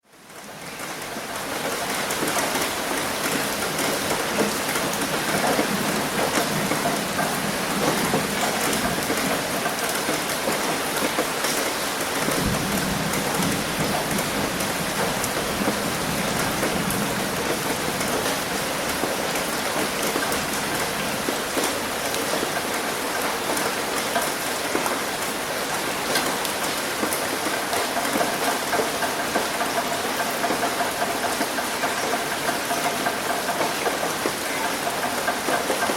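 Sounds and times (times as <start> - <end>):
dense rain falling: 0.0 - 35.9.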